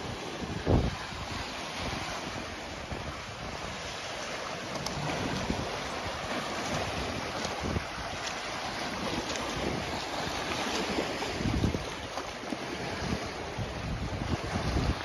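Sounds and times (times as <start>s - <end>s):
waves splashing over rocks: 0.0s - 15.0s
wind buffeting microphone: 0.0s - 15.0s.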